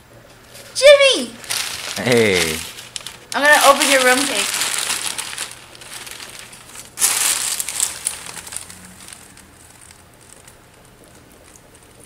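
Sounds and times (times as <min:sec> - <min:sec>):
bubble-wrap rustling: 0:00.5 - 0:12.0.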